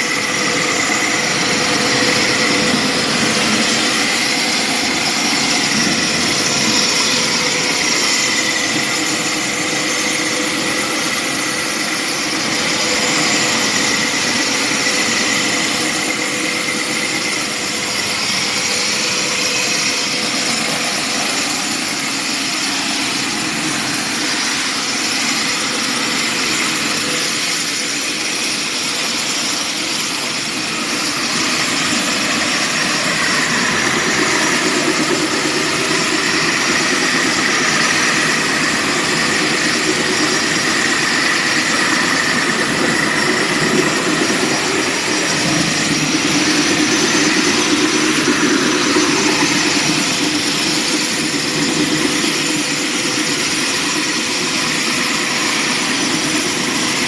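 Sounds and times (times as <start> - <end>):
floor grinder on concrete: 0.0 - 57.0.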